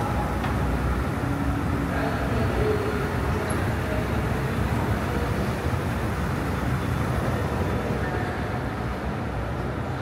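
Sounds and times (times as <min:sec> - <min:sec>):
low rumble of city noise: 0:00.0 - 0:10.0.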